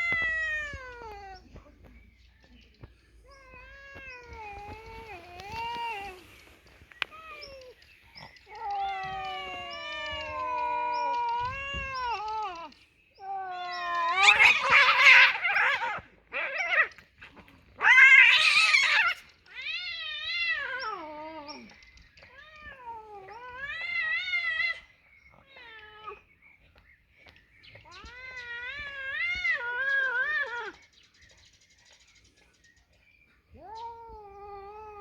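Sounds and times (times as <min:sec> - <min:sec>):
cats yowling: 0:00.0 - 0:01.6, 0:03.2 - 0:26.3, 0:27.7 - 0:30.8, 0:33.5 - 0:35.0.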